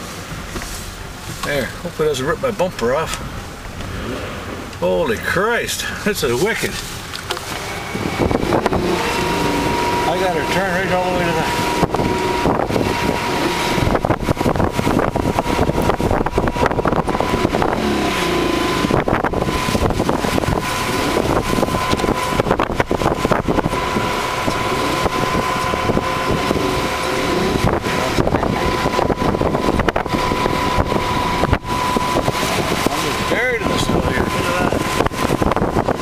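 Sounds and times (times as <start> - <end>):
car engine working hard: 0.0 - 36.0
thin whine: 0.0 - 36.0
wheels spinning in wet snow: 3.8 - 36.0.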